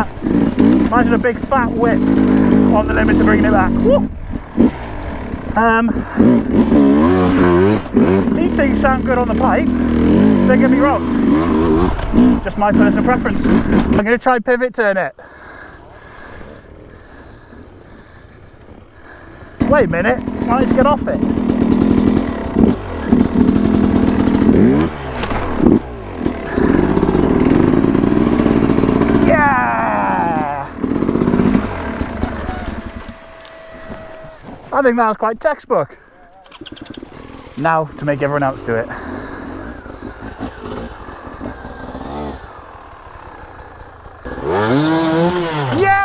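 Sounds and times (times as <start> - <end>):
bike clattering and scraping: 0.0 - 14.2, 15.7 - 35.0, 36.2 - 46.0
dirt bike engine revving: 0.0 - 14.4, 15.2 - 35.2, 36.3 - 46.0.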